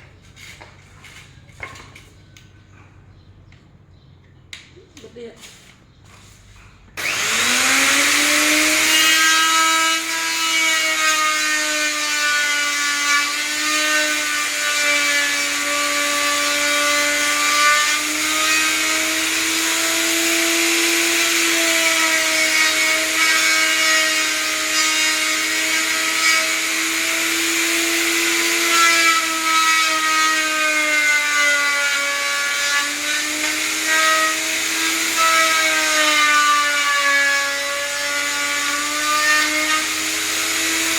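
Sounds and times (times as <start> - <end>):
power tool motor whine: 7.0 - 40.9.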